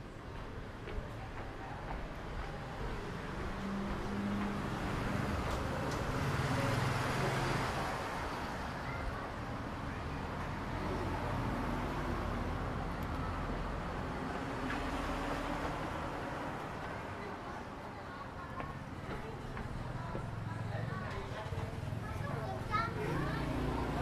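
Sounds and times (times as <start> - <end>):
traffic hum: 0.0 - 24.0
vehicle engines passing: 0.0 - 24.0.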